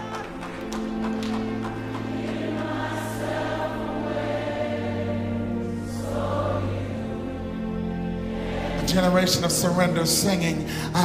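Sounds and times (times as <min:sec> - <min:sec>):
gospel choir singing: 0:00.0 - 0:11.0
musical accompaniment: 0:00.0 - 0:11.0.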